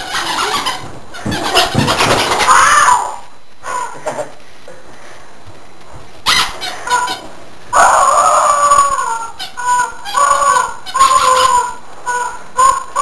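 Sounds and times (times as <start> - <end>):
chickens squawking: 0.0 - 4.3, 6.2 - 13.0.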